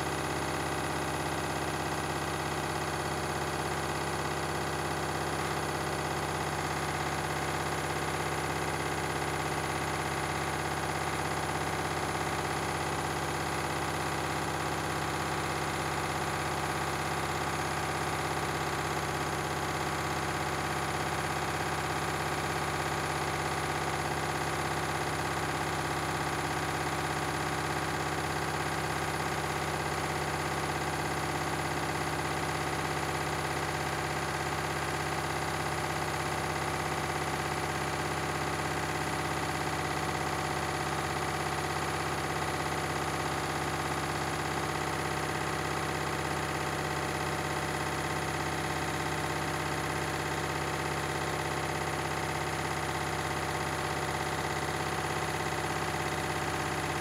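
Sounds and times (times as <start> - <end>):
washing machine spinning: 8.0 - 15.4, 16.0 - 29.6, 30.2 - 57.0.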